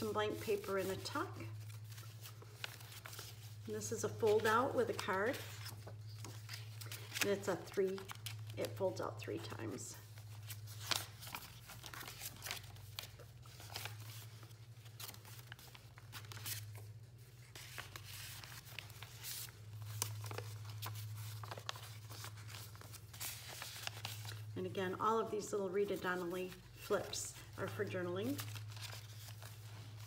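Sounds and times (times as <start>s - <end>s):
paper pages rustling and flapping: 0.0s - 24.6s, 26.0s - 30.0s.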